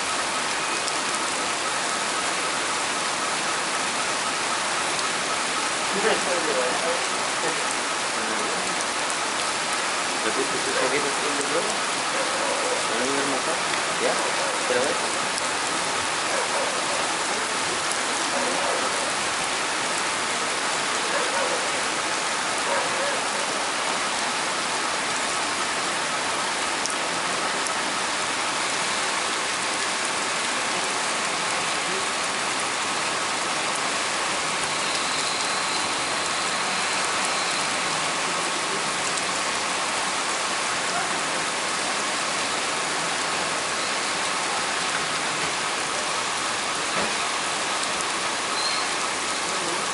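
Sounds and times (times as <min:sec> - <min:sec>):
torrential rain hissing: 0:00.0 - 0:49.9.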